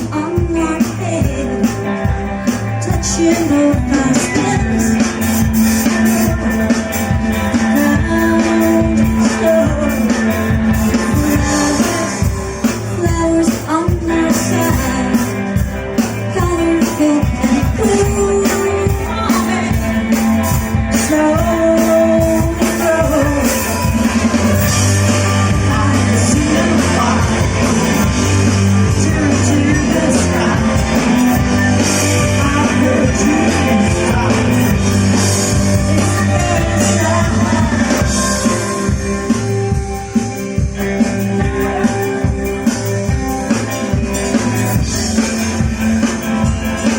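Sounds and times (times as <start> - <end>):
person singing: 0.0 - 40.4
drum beat: 0.0 - 46.9
electric guitar: 0.0 - 46.9.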